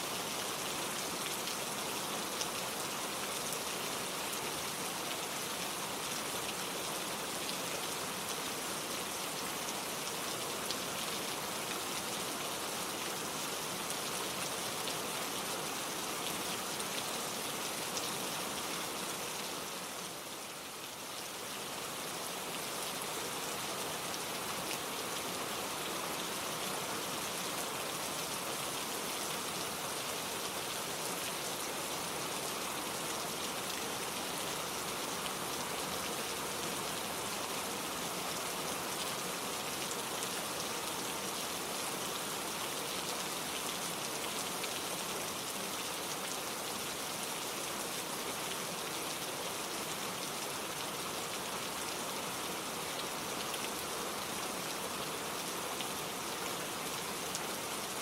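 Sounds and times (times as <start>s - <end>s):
gentle steady rain: 0.0s - 58.0s.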